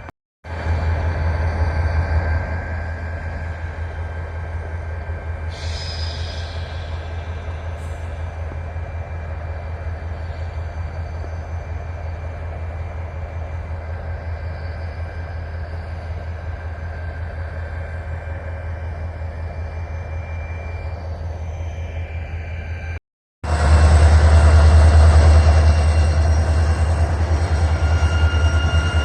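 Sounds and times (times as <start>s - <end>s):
freight train rumbling on rails: 0.0s - 29.0s
high wheel squeal: 0.8s - 23.0s, 24.2s - 29.0s.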